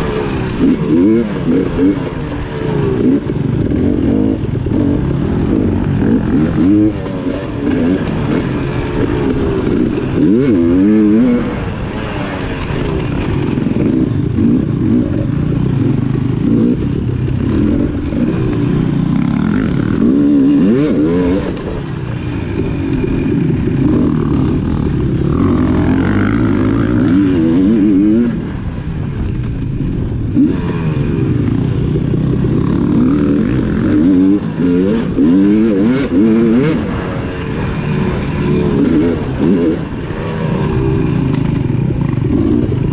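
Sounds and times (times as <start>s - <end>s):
dirt bike engine revving: 0.0s - 28.9s, 29.5s - 42.9s.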